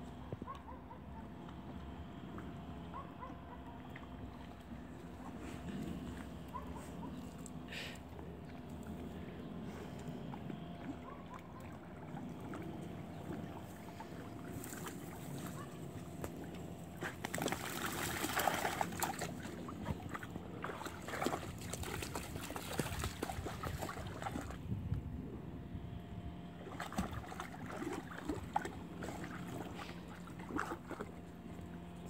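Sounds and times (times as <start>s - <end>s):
dogs splashing in shallow water: 1.3s - 24.8s, 26.5s - 32.0s.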